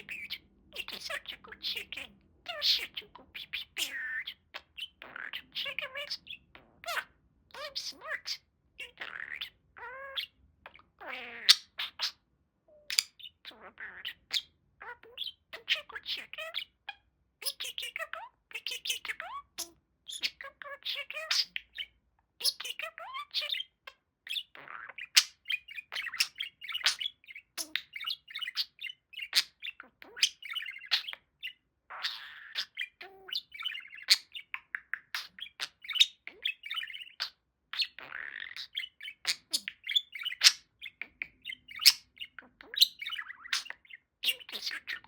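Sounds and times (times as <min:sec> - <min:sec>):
budgerigar warbling and chattering: 0:00.0 - 0:45.0.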